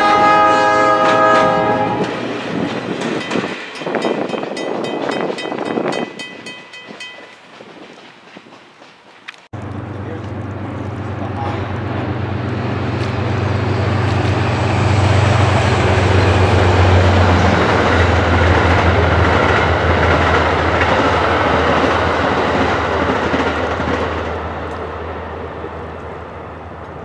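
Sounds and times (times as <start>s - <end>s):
rolling clatter of train cars: 0.0s - 27.0s
train low steady drone: 0.0s - 27.0s.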